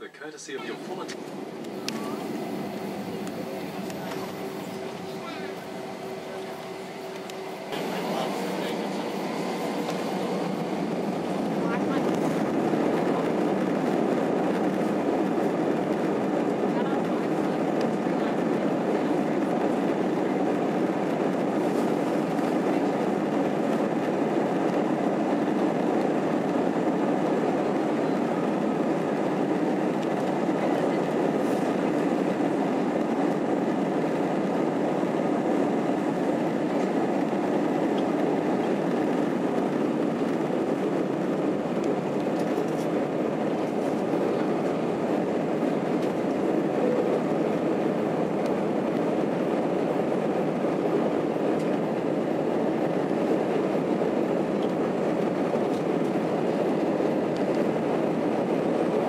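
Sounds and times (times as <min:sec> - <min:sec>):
jet engines at takeoff thrust: 0:00.0 - 0:59.0
takeoff roll rumble: 0:00.7 - 0:57.9.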